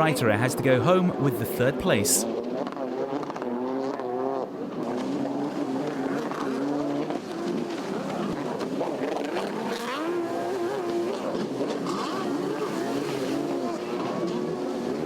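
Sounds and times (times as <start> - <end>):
jet ski engines revving: 0.0 - 15.0.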